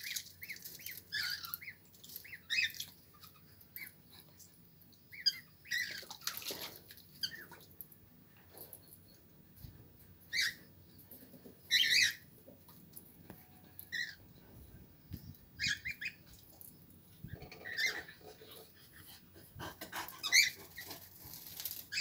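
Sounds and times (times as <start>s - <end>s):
birds chirping and squawking: 0.0s - 4.4s, 5.0s - 7.6s, 10.2s - 12.7s, 13.4s - 22.0s.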